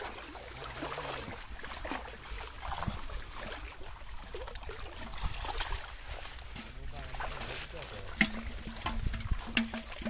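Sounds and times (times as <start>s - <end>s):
river water splashing: 0.0s - 10.0s.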